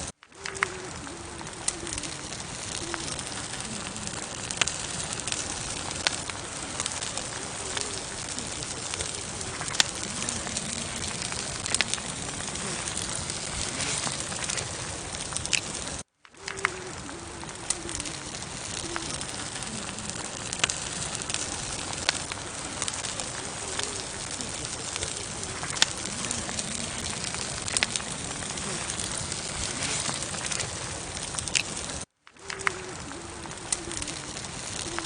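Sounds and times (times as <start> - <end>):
campfire hissing: 0.0 - 35.0
fire crackling and popping: 0.0 - 35.0.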